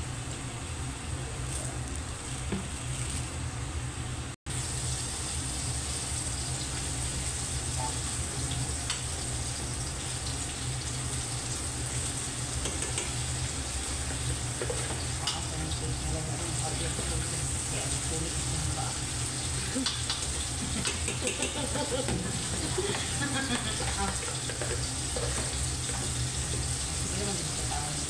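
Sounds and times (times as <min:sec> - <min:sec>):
chicken frying in oil: 0:04.5 - 0:28.0.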